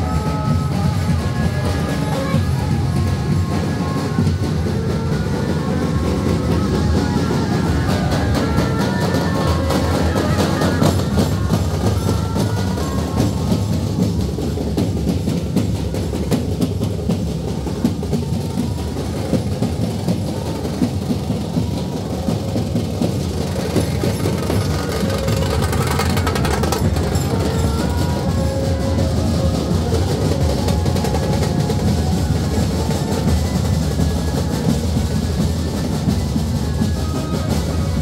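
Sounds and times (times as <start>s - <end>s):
steady drumming: 0.0s - 38.0s.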